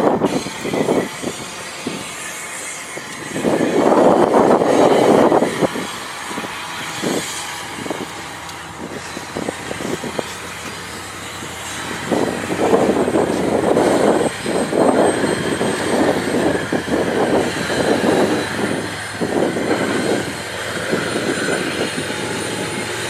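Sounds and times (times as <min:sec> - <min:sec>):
diesel locomotive engine: 0:00.0 - 0:23.0
freight train running rumble: 0:00.0 - 0:23.0.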